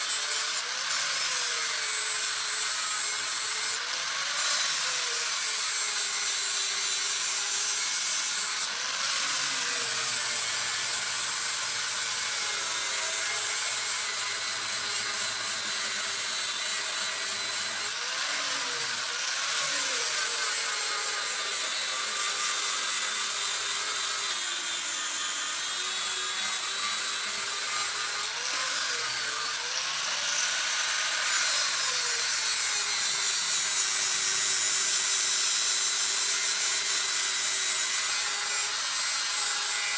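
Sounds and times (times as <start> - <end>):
power grinder grinding steel: 0.0 - 39.9.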